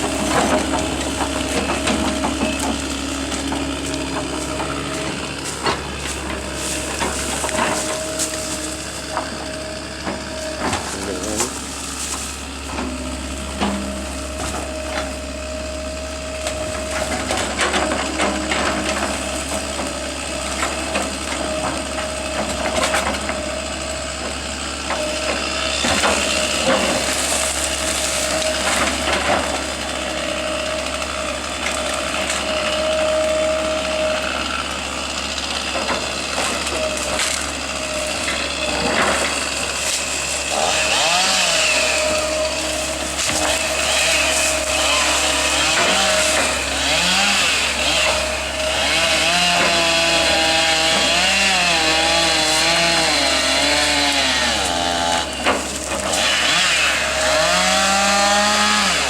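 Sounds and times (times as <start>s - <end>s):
machinery humming: 0.0s - 59.0s
wood cracking and crunching: 0.0s - 59.0s.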